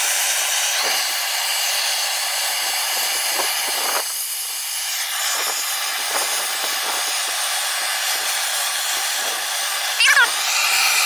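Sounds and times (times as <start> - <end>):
torch hissing: 0.0 - 11.0.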